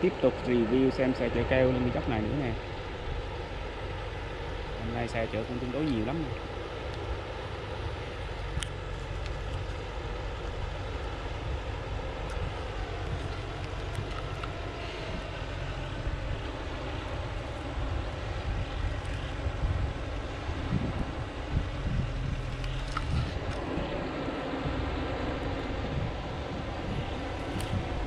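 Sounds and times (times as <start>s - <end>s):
distant truck engine droning: 0.0s - 28.0s.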